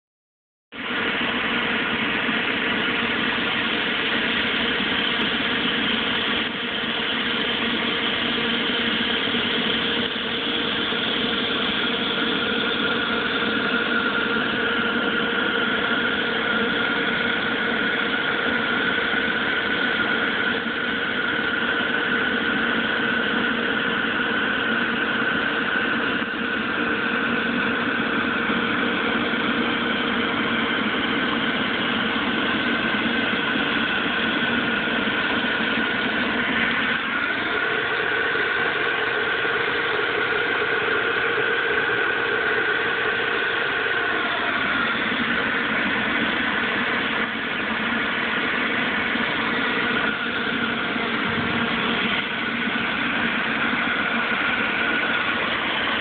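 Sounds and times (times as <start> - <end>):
snowmaker fan whirring: 0.7 - 56.0.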